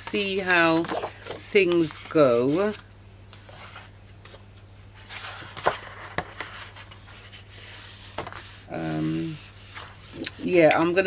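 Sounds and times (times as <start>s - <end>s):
paper rustling and sliding: 0.3s - 4.4s, 5.0s - 10.2s.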